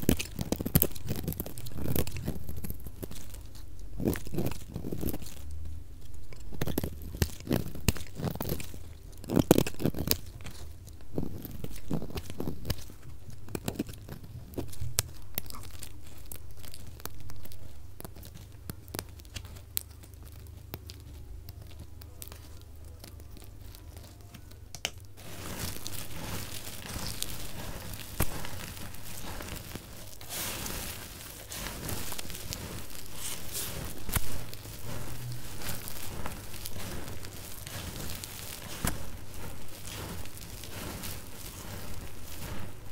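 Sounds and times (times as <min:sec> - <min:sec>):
bar soap crunching and crackling: 0:00.0 - 0:42.9.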